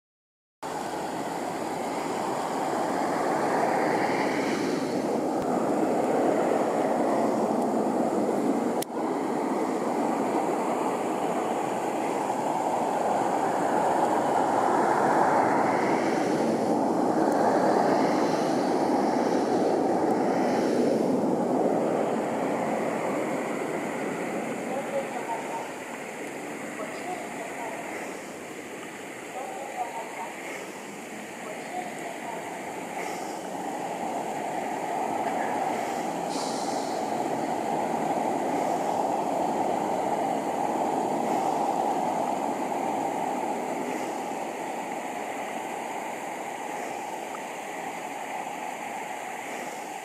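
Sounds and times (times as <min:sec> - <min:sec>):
steady rushing noise: 0:00.6 - 0:50.0.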